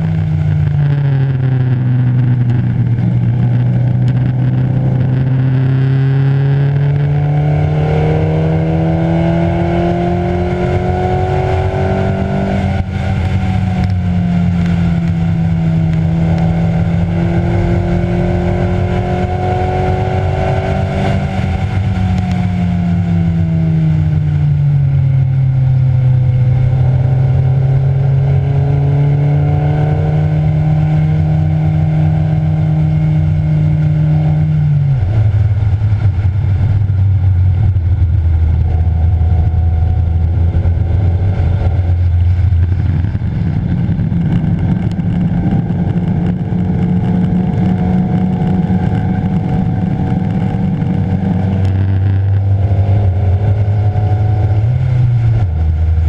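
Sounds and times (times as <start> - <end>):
race car engine revving: 0.0 - 22.4, 24.9 - 56.0
road and wind noise: 0.0 - 56.0.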